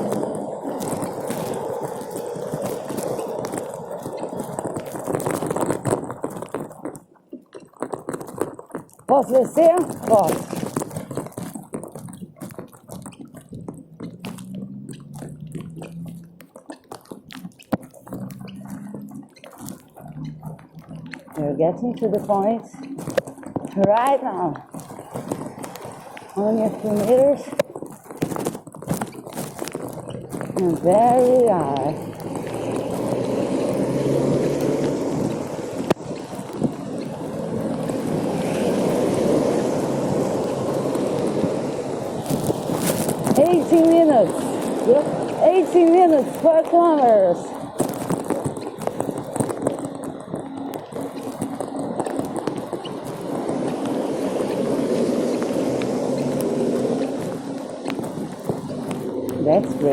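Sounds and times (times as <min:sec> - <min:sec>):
rain water dripping: 0:00.0 - 0:59.9
wet footsteps on pavement: 0:00.0 - 0:59.9
wind buffeting microphone: 0:00.0 - 0:59.9.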